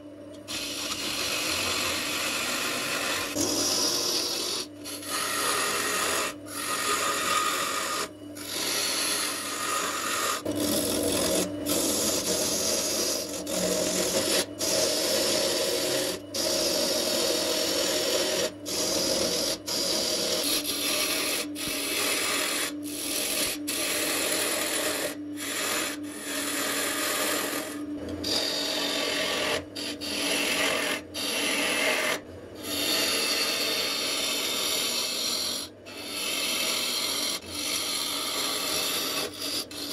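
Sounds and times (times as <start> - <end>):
lathe gouge rasping wood: 0.5 - 39.9.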